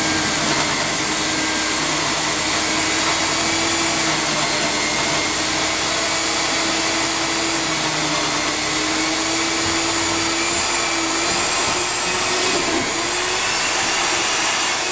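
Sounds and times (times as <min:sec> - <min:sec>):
core drill humming and whining: 0:00.0 - 0:14.9.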